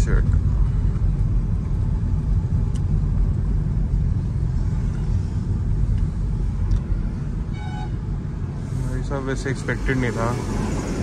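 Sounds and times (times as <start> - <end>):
car driving interior rumble: 0.0 - 11.0.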